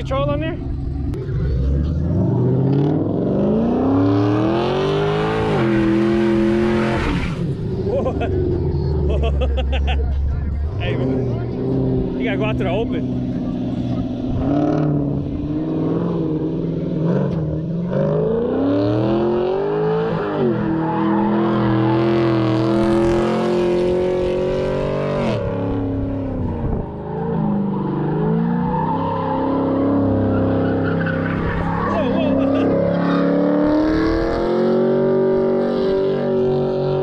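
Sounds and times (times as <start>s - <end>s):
car engine revving: 0.0s - 37.0s
tires squealing: 0.9s - 37.0s.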